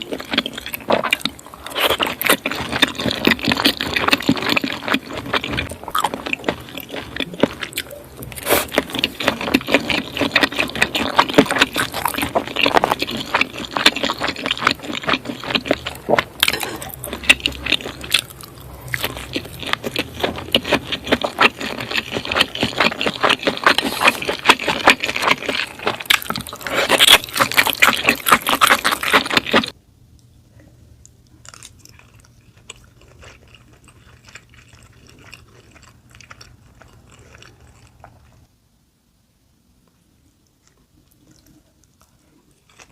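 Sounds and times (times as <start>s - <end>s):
person chewing: 0.0s - 29.8s, 31.0s - 38.5s, 40.3s - 42.9s.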